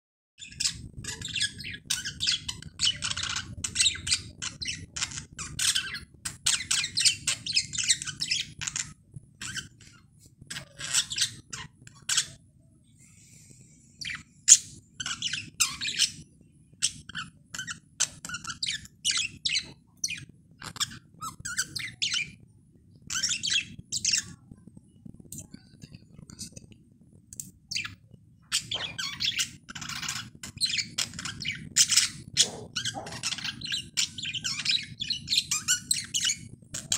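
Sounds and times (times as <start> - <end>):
budgerigar chirping and squawking: 0.4 - 12.4, 14.0 - 22.4, 23.1 - 24.4, 27.7 - 36.9.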